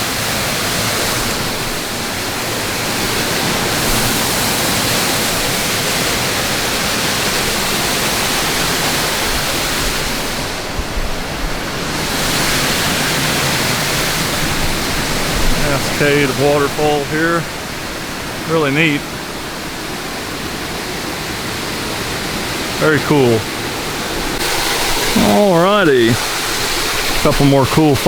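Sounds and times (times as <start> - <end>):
waterfall rushing and splashing: 0.0 - 28.0.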